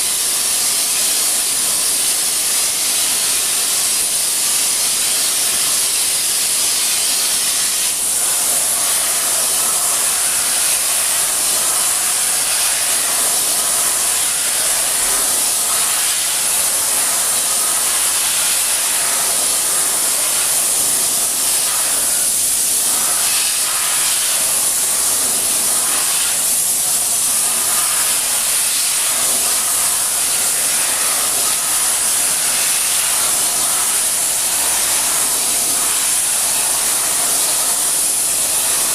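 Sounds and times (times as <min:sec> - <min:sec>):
loud steady hiss: 0:00.0 - 0:38.9.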